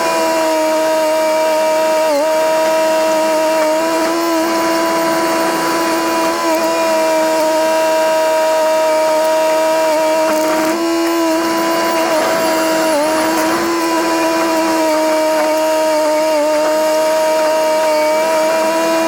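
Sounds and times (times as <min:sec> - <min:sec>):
bulldozer engine whining: 0:00.0 - 0:19.0.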